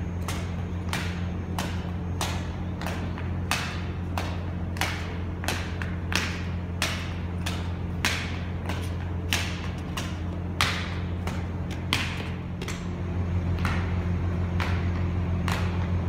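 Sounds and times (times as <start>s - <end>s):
footsteps on concrete floor: 0.0s - 16.0s
low hum: 0.0s - 16.0s.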